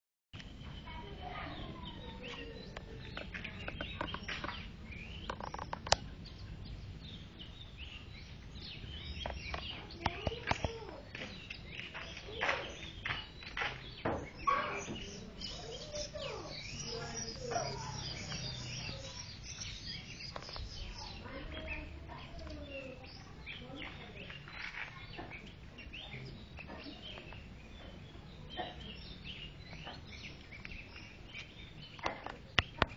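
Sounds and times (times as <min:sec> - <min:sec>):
birds chirping: 0:00.4 - 0:32.9.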